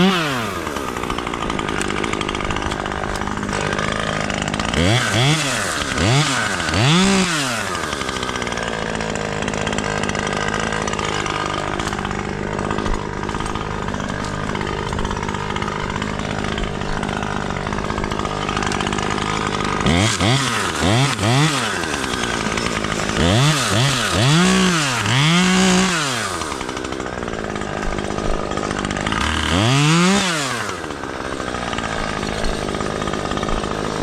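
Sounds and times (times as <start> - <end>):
chainsaw revving: 0.0 - 34.0.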